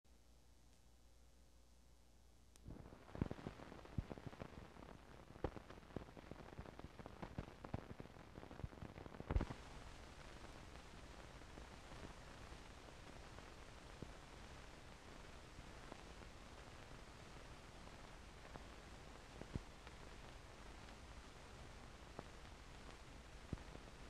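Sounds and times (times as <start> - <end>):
faint hiss: 0.1 - 24.0
film soundtrack crackling pops: 2.5 - 24.0.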